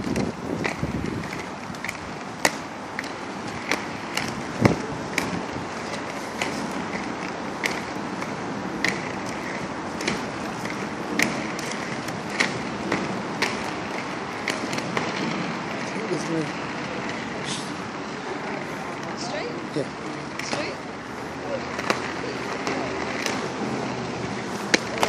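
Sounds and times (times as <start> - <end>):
small wheels rolling on pavement: 0.0 - 25.0
wheels clicking over paving joints: 0.0 - 25.0.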